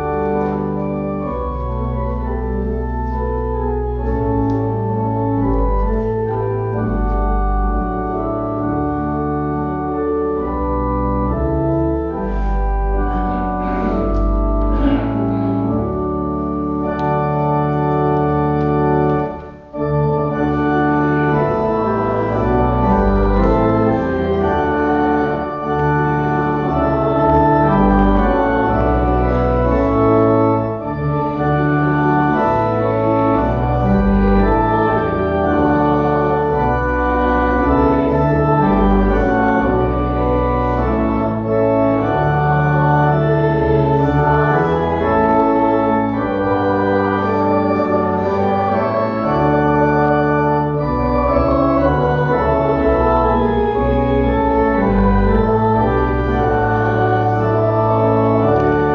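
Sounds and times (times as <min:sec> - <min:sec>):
church organ playing a hymn: 0:00.0 - 0:58.9.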